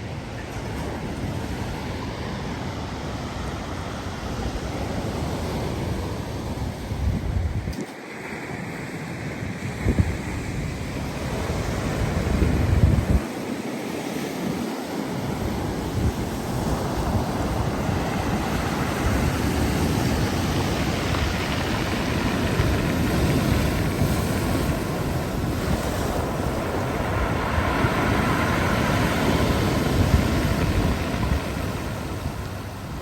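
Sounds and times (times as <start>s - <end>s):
surf washing onto shore: 0.0s - 33.0s
wind rumbling on microphone: 0.0s - 33.0s.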